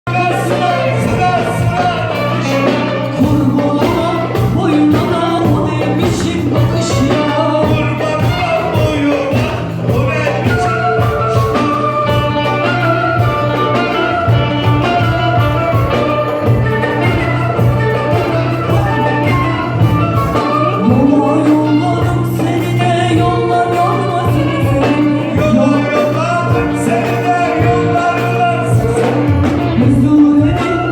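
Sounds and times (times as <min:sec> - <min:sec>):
person singing: 0:00.0 - 0:30.9
orchestra playing: 0:00.1 - 0:30.9.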